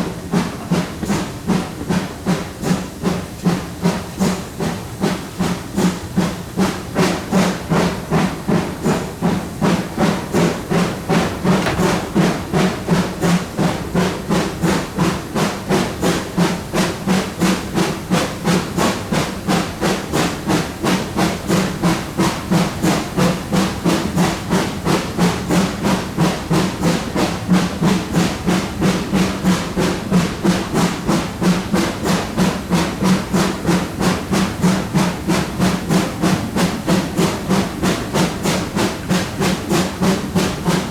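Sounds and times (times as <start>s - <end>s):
steam locomotive chuffing: 0.0s - 40.9s.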